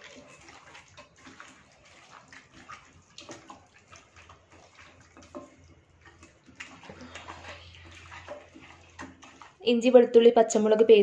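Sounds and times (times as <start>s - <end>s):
hands squishing wet marinade: 0.0s - 10.8s.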